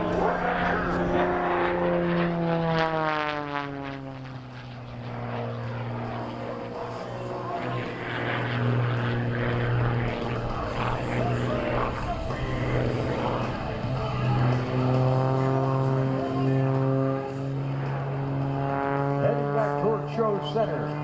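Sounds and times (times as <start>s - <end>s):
propeller plane engine drone: 0.0s - 21.0s.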